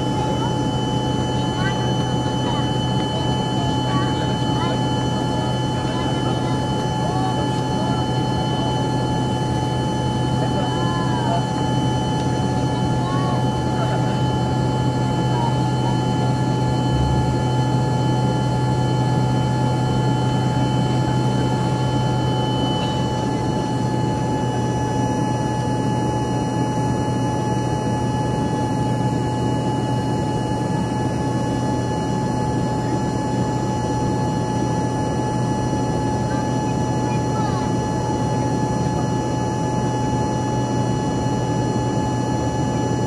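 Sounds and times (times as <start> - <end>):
airplane cabin drone: 0.0 - 43.0
jet engine whine: 0.0 - 43.0.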